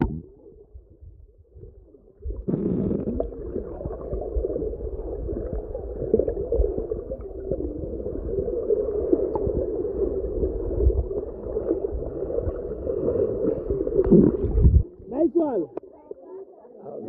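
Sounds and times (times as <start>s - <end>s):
muffled underwater churning: 0.0s - 15.8s.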